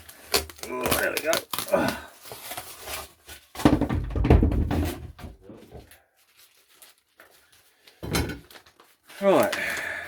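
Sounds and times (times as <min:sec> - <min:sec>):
packaging rustling: 0:00.0 - 0:03.7, 0:05.5 - 0:10.0.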